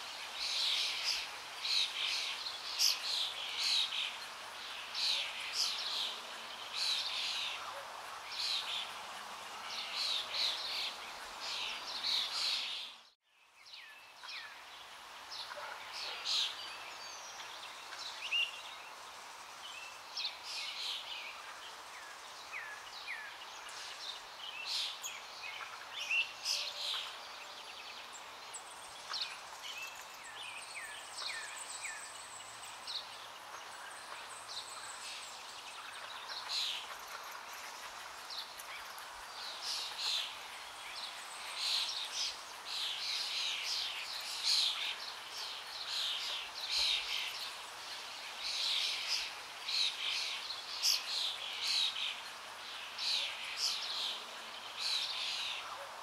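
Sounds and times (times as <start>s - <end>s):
small birds chirping: 0.0s - 55.8s
outdoor hiss: 0.0s - 56.0s.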